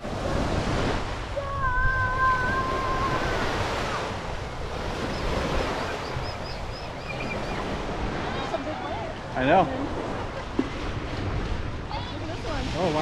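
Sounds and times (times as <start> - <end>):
small lake waves: 0.0 - 13.0
wind buffeting microphone: 0.0 - 13.0.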